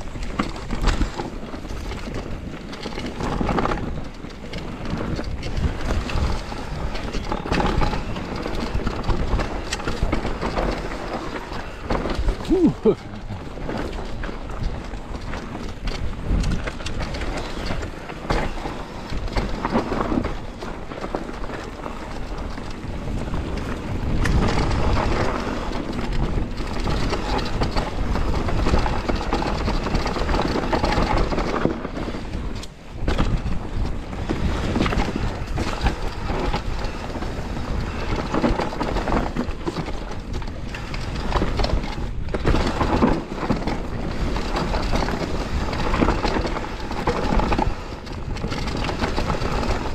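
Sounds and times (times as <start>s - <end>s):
bike rattling and knocking: 0.0s - 49.9s
tyres rumbling over dirt and rocks: 0.0s - 49.9s.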